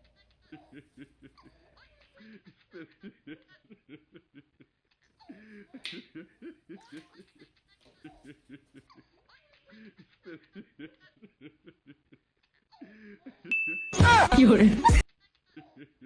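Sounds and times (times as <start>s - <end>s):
person laughing: 0.4s - 16.0s.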